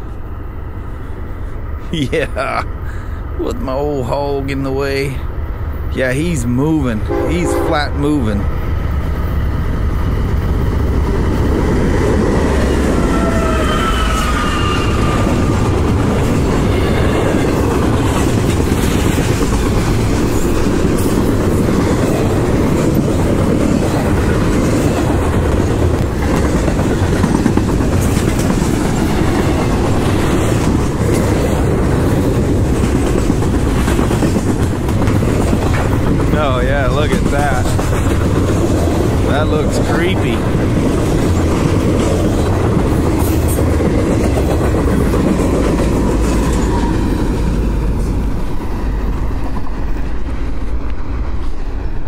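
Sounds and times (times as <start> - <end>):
freight train passing: 0.0 - 52.0.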